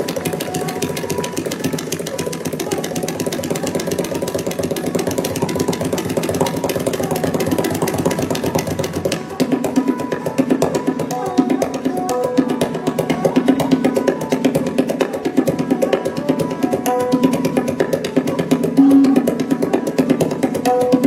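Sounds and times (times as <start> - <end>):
tabla played in fast strokes: 0.0 - 21.0.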